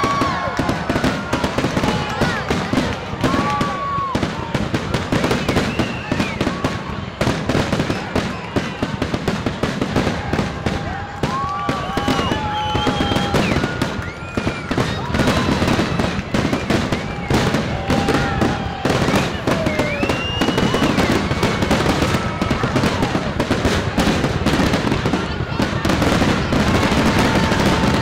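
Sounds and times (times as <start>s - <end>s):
fireworks bangs and crackles: 0.0s - 28.0s
fireworks whistling: 0.0s - 28.0s.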